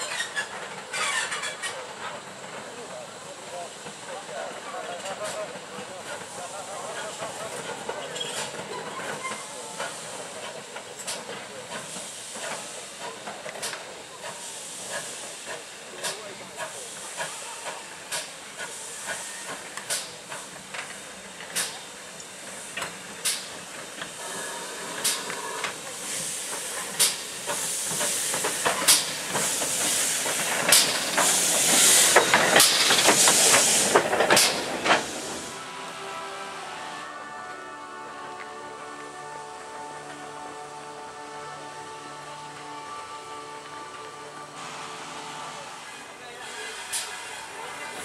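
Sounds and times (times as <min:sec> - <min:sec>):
steam locomotive hissing steam: 0:00.0 - 0:48.0.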